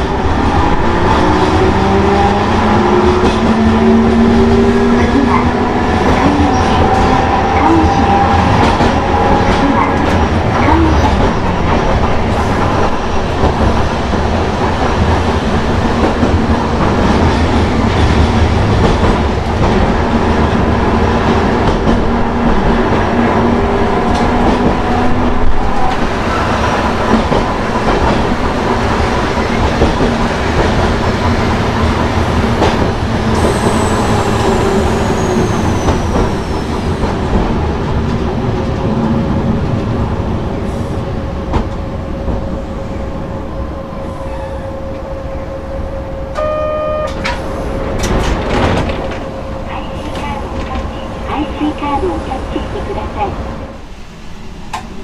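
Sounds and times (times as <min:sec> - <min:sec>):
tram motors and gears whining: 0:00.0 - 0:55.0
tram running rumble: 0:00.0 - 0:55.0.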